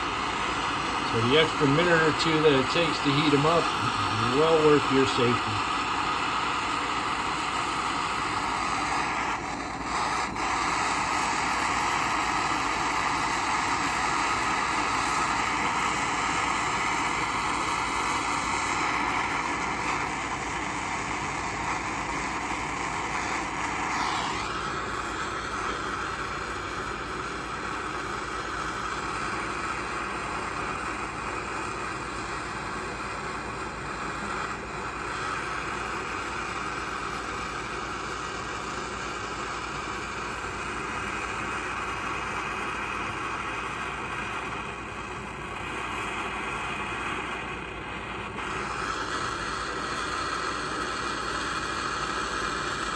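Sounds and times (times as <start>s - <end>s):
gas torch flame burning: 0.0s - 52.9s.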